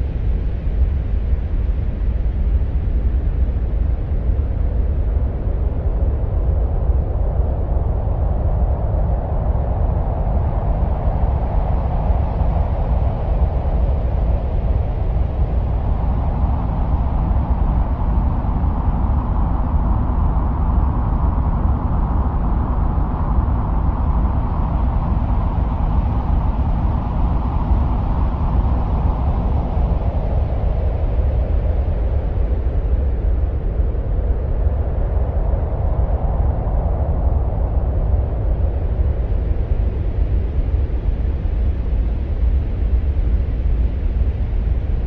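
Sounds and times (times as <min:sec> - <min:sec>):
deep wind-like rumble: 0:00.0 - 0:45.0.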